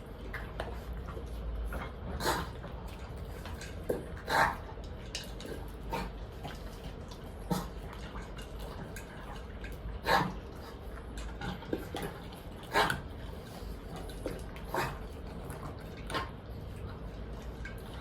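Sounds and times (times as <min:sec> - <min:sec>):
dogs eating from bowl: 0:00.0 - 0:18.0.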